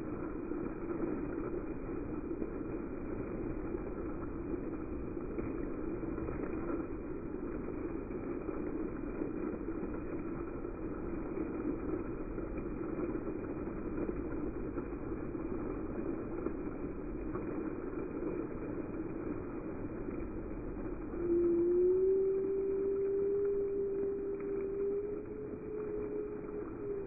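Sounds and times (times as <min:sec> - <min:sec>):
fountain water splashing on paving: 0:00.0 - 0:27.0.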